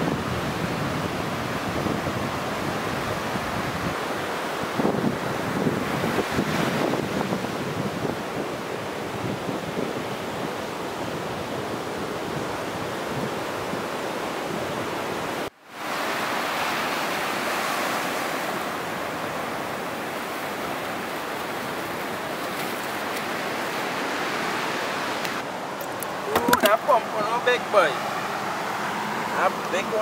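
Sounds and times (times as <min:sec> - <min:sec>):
waves washing up a beach: 0:00.0 - 0:30.0.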